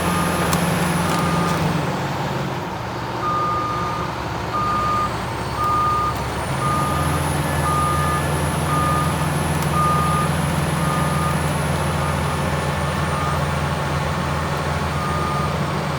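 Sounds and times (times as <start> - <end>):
excavator alarm beeping: 0.0 - 1.8, 3.2 - 13.6, 14.2 - 15.9
diesel engine running: 0.0 - 15.9.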